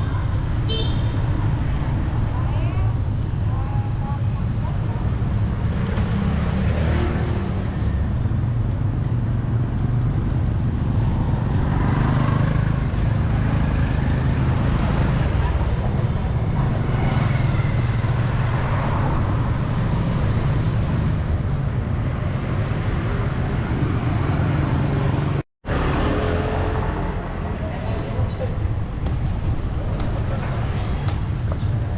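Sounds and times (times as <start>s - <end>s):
street traffic rumble: 0.0s - 31.9s.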